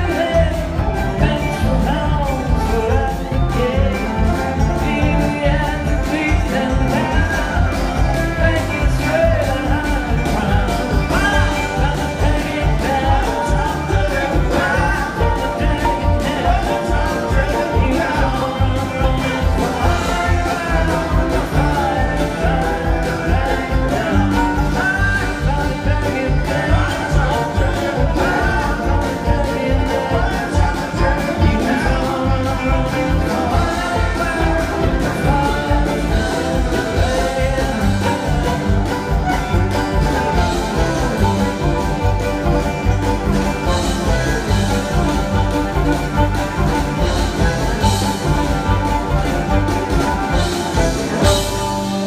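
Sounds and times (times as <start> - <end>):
live band playing: 0.0 - 52.0
steady drum beat: 0.0 - 52.0.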